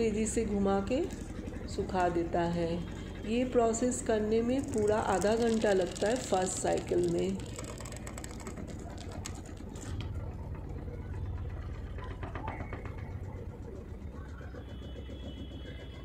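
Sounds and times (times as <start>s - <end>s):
washing machine spin cycle hum: 0.0s - 16.0s.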